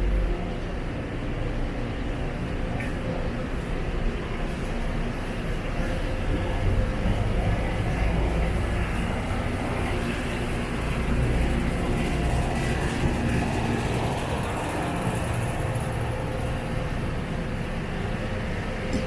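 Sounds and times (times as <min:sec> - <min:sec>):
vehicle engines rumbling and passing: 0:00.0 - 0:19.0.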